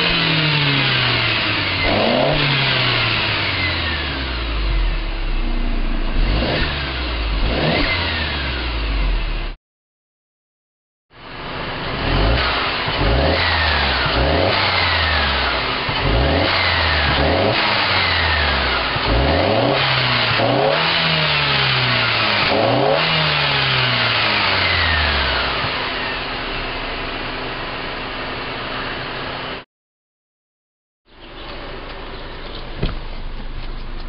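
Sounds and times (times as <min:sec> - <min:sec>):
car engine revving and idling: 0:00.0 - 0:09.6, 0:11.2 - 0:29.6.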